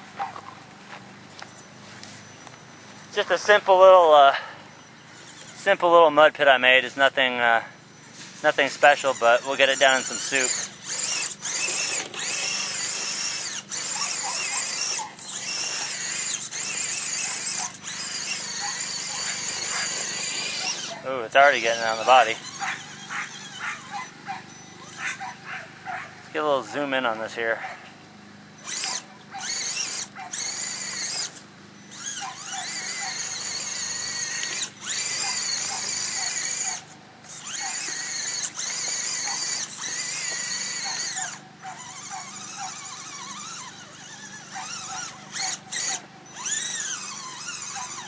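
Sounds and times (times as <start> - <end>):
toy car electric motor whining: 0.0 - 27.5, 28.4 - 48.0.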